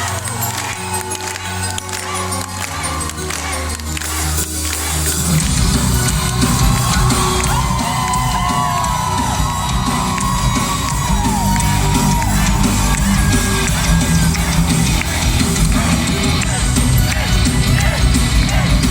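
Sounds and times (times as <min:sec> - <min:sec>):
audience whooping and shouting: 0:00.0 - 0:18.9
live rock music: 0:00.0 - 0:18.9.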